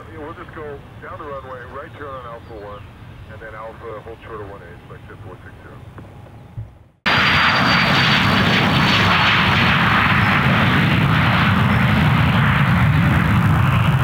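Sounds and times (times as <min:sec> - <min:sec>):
high jet engine whine: 0:00.0 - 0:14.0
jet engines running: 0:00.0 - 0:14.0.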